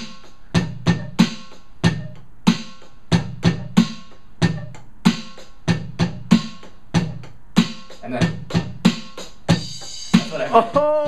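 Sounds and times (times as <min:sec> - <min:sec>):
electronic drum kit beat: 0:00.0 - 0:11.0.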